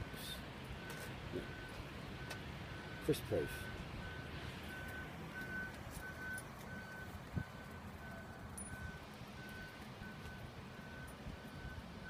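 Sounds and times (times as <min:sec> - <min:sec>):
reversing alarm beeping: 0:00.1 - 0:12.0.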